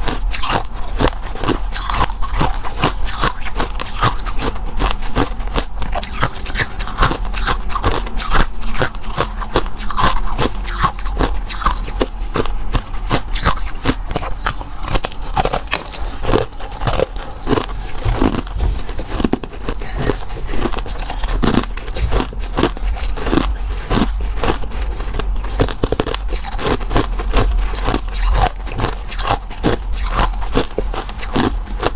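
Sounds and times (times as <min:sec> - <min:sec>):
crunchy chewing: 0:00.0 - 0:31.9.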